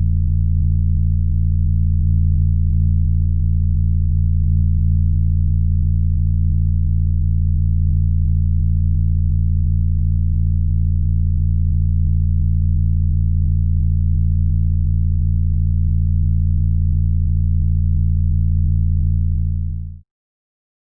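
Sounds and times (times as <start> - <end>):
mixer feedback low hum: 0.0 - 20.0.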